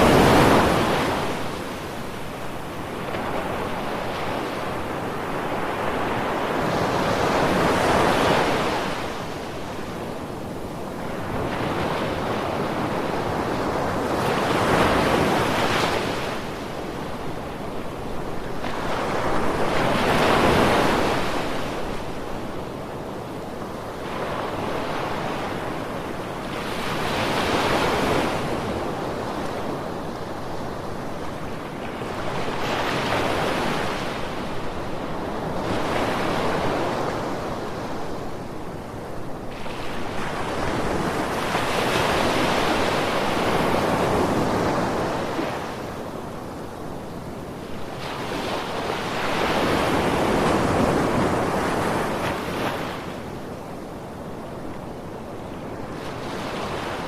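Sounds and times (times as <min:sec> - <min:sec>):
ocean waves breaking on shore: 0:00.0 - 0:57.0
wind: 0:00.0 - 0:57.0.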